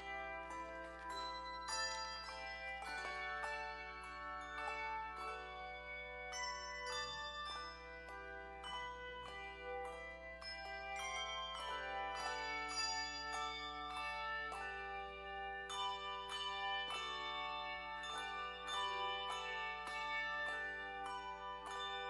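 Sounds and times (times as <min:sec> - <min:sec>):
ringing bell-like notes: 0:00.0 - 0:22.0.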